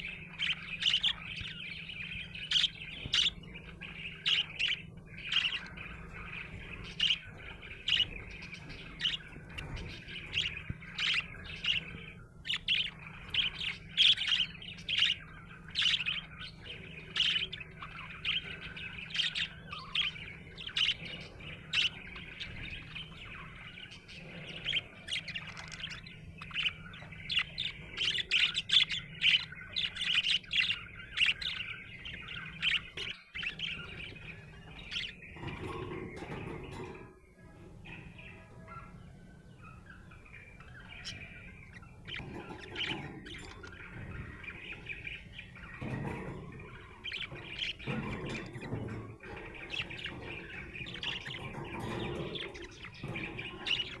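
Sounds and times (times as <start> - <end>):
budgerigar chirping and chattering: 0.0 - 54.0.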